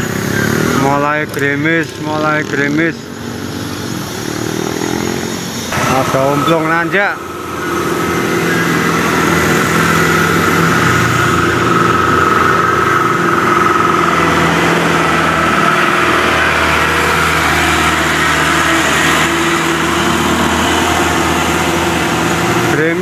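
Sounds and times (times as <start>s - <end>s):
motorcycles passing: 0.0s - 23.0s
truck engine pulling uphill: 0.0s - 23.0s.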